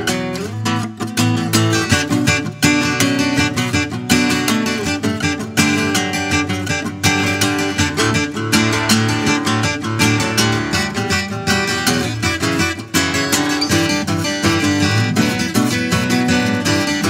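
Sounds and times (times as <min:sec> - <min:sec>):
strummed acoustic guitar music: 0:00.0 - 0:17.0.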